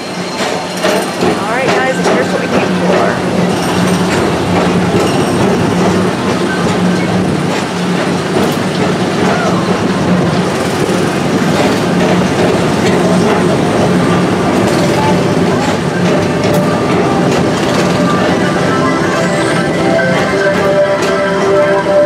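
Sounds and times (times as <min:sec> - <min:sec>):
ride car rumbling on track: 0:00.0 - 0:22.0.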